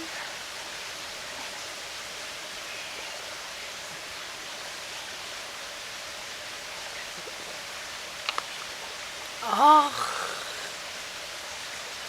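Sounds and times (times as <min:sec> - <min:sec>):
stream rushing water: 0:00.0 - 0:12.0.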